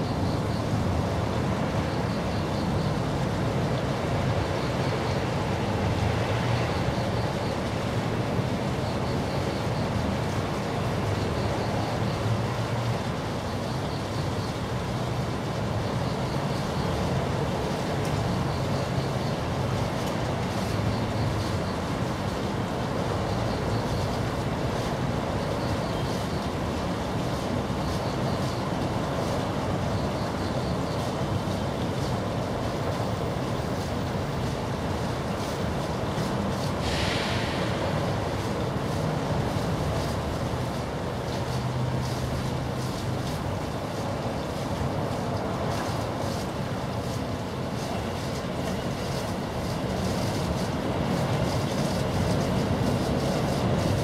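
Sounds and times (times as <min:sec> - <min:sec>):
faint hiss: 0:00.0 - 0:54.0.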